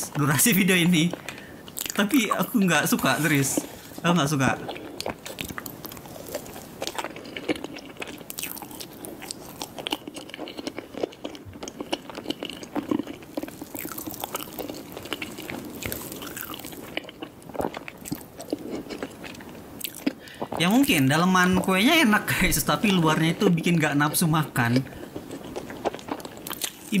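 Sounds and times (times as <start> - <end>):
chewing and wet mouth sounds: 0.9 - 27.0.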